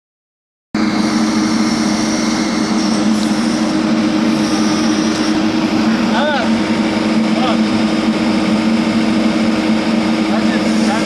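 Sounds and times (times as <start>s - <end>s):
diesel engine droning: 0.8s - 11.0s.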